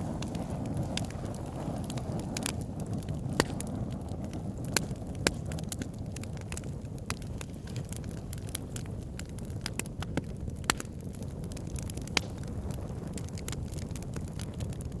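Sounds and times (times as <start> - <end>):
firewood crackling and snapping: 0.0 - 15.0
loud fire pops: 0.0 - 15.0
low rumble of fire: 0.0 - 15.0.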